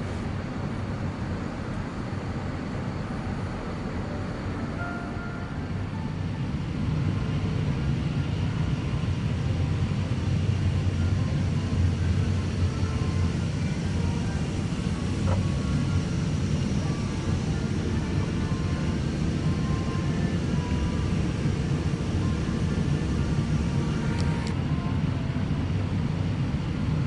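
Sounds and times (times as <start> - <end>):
air conditioning rumble: 0.0 - 27.0.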